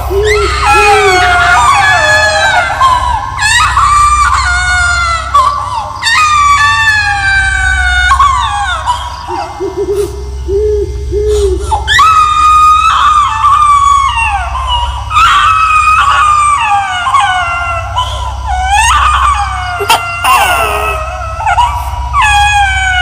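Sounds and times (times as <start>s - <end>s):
eerie high wails: 0.0s - 23.0s
steady low drone: 0.0s - 23.0s.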